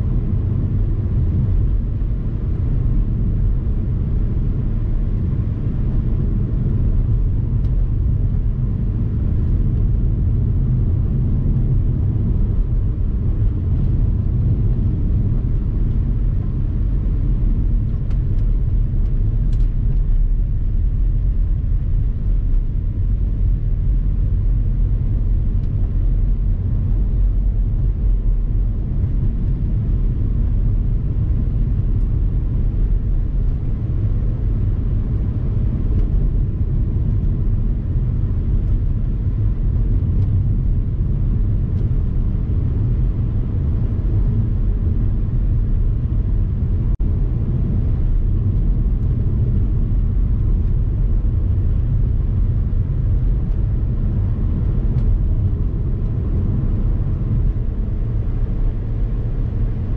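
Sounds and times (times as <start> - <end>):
vehicle driving rumble: 0.0 - 59.9.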